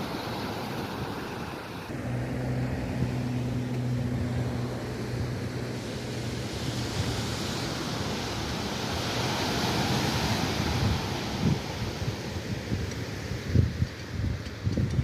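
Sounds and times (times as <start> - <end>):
sea waves washing on shore: 0.0 - 14.9
wind buffeting microphone: 0.0 - 15.0.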